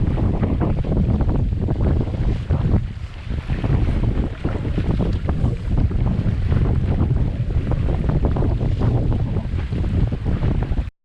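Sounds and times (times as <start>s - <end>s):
water rushing along hull: 0.0s - 10.9s
wind buffeting microphone: 0.0s - 10.9s.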